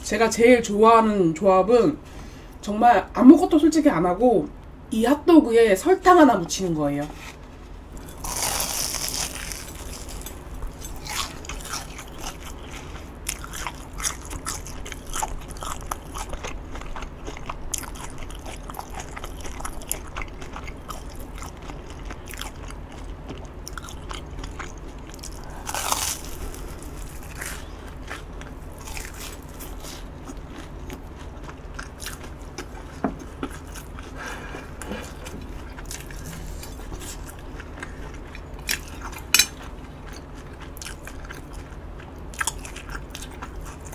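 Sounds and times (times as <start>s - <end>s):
crunchy chewing: 7.2s - 43.9s.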